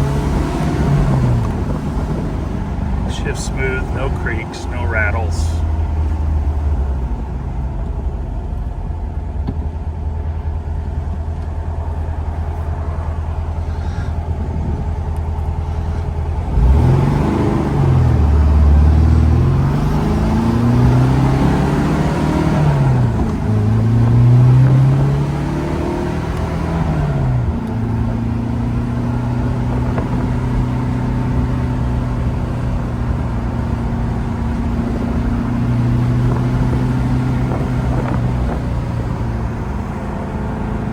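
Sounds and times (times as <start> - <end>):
car engine revving while driving: 0.0 - 8.8, 13.7 - 40.9.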